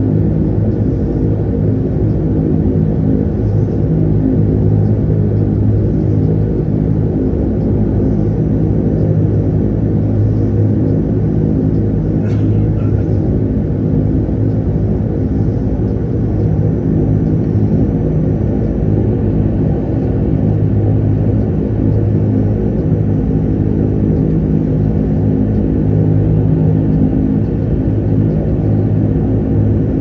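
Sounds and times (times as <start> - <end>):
propeller tones: 0.0 - 30.0
turboprop engines humming: 0.0 - 30.0.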